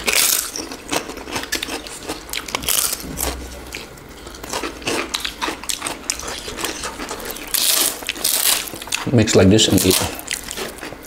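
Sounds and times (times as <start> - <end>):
crunching and chewing: 0.0 - 11.0.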